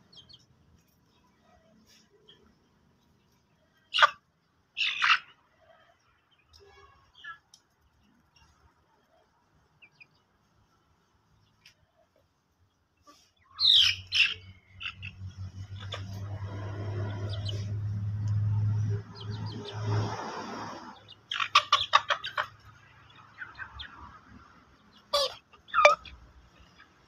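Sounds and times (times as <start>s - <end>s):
chickens calling: 0.0s - 27.0s.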